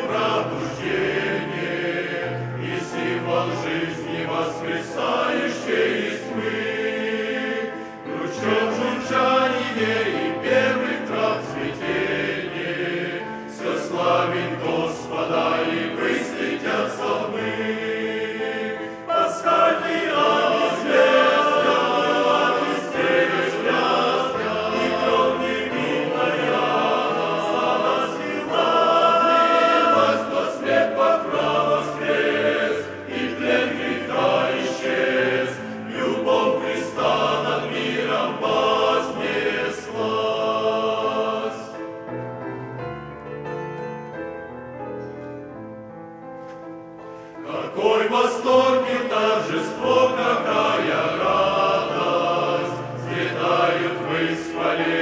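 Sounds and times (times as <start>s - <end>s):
men's choir singing a hymn: 0.0s - 42.5s, 47.2s - 55.0s.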